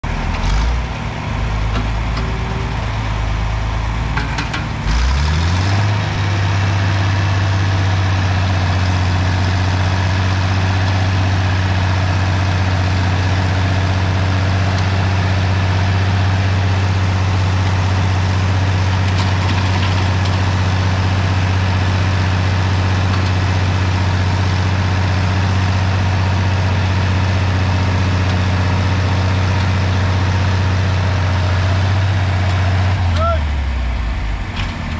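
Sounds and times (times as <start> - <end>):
tractor engine revving: 0.0 - 34.9.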